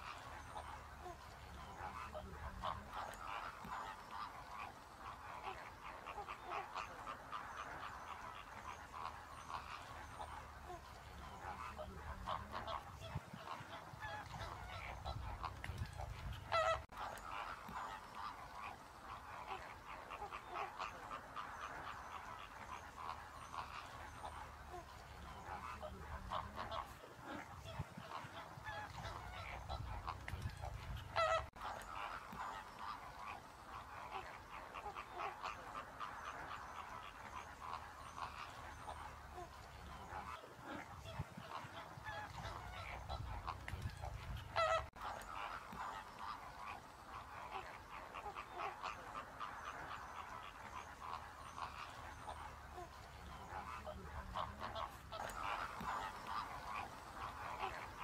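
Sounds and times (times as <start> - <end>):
flamingos honking: 0.0 - 58.0.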